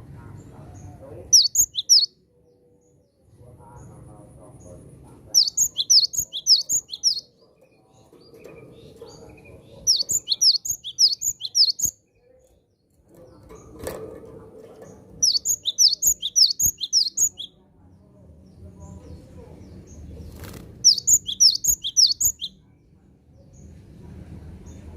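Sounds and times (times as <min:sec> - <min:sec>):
low background murmur: 0:00.0 - 0:24.9.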